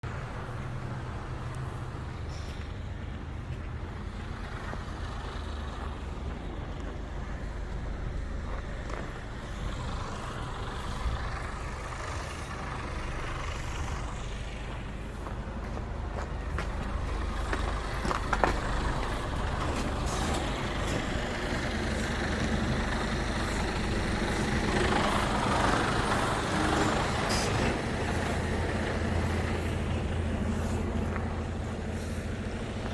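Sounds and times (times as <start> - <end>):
truck engine running: 0.0 - 32.9.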